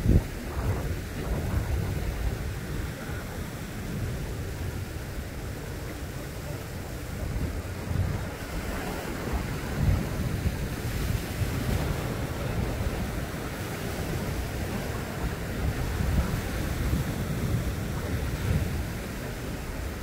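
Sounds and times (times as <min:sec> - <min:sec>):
sea waves washing over rocks: 0:00.0 - 0:20.0
wind gusting on microphone: 0:00.0 - 0:20.0.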